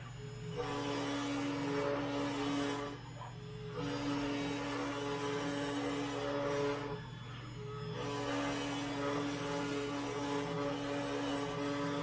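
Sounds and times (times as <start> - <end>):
router spindle humming: 0.0 - 12.0
stepper motors whining: 0.0 - 12.0.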